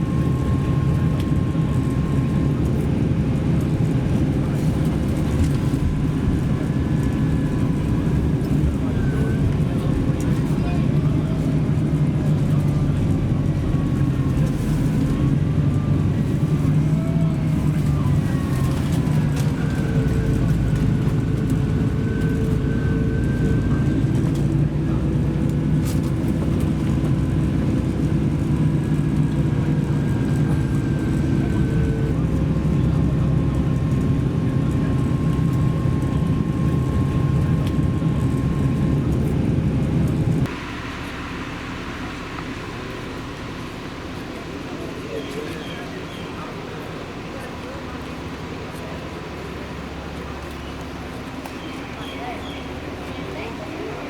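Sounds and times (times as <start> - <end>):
faint whine: 0.0 - 54.0
vehicle engine drone: 0.0 - 54.0.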